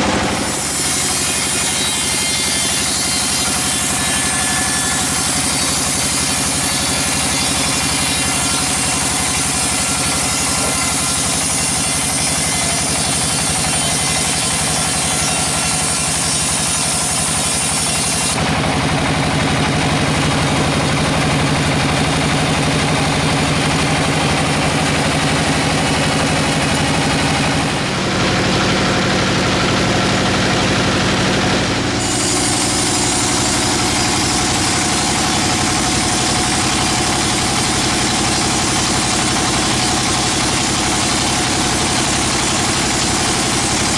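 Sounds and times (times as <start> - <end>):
band sawmill running: 0.0 - 43.9.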